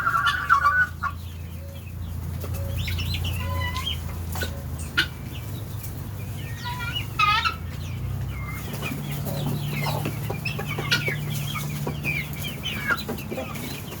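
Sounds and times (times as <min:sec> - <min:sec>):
poultry calling and clucking: 0:00.0 - 0:14.0.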